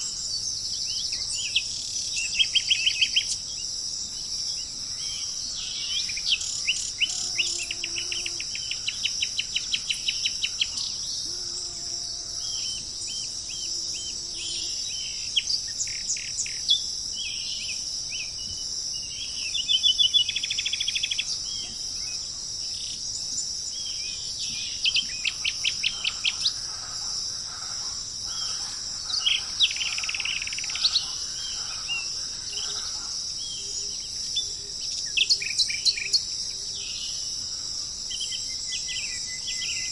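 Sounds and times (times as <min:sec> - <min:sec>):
high-pitched insect drone: 0:00.0 - 0:39.9
songbirds singing: 0:00.0 - 0:39.9.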